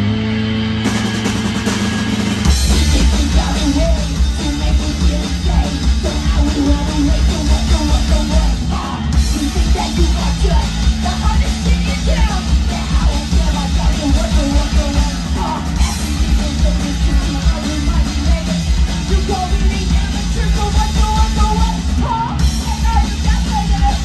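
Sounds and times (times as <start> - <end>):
punk rock band playing live: 0.0 - 24.0.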